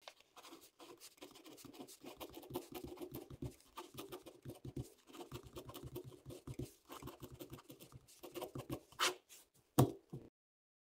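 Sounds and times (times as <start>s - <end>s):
pen scratching on paper: 0.4s - 9.4s.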